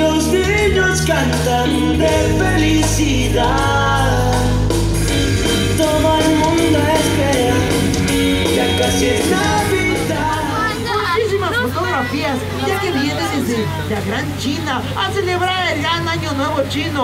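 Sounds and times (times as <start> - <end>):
pop song over loudspeakers: 0.0 - 17.0.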